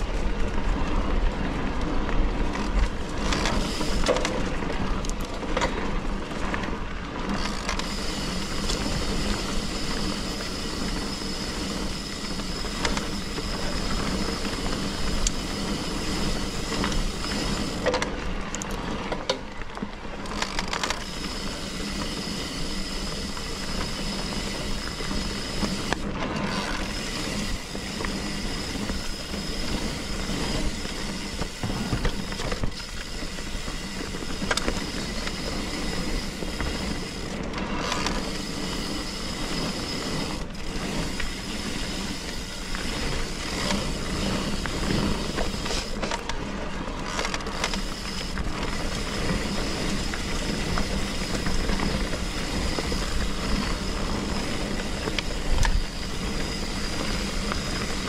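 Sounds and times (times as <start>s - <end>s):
bike knocking and rattling: 0.0s - 58.0s
bike hub ratcheting: 2.5s - 6.6s, 7.2s - 19.4s, 20.2s - 58.0s.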